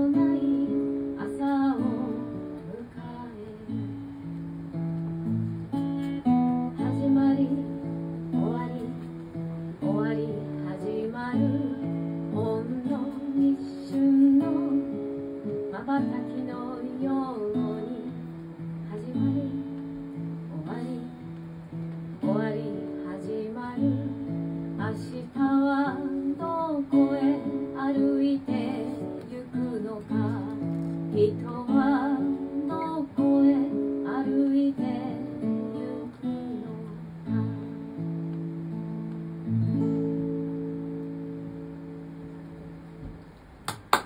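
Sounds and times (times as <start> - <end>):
woman singing: 0.0 - 4.6, 5.6 - 38.1
acoustic guitar: 0.0 - 44.0.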